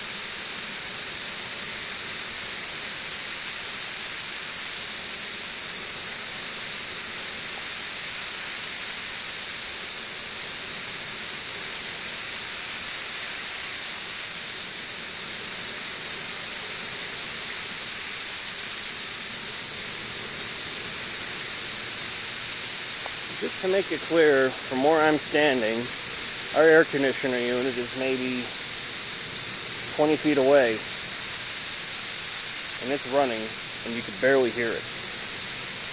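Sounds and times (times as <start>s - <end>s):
cicadas droning: 0.0s - 35.9s.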